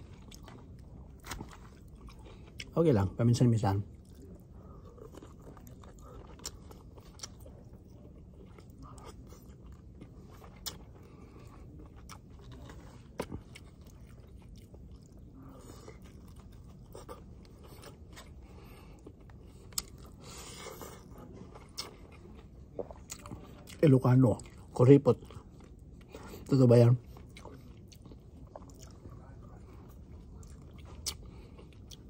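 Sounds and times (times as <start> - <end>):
person chewing food: 0.0 - 2.7, 3.9 - 32.0
low room hum: 0.0 - 32.0.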